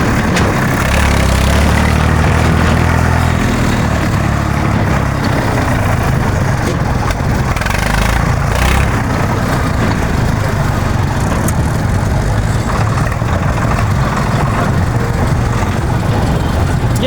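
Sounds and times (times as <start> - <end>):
road and mechanical noise: 0.0 - 17.0
tractor diesel engine running: 0.0 - 17.0.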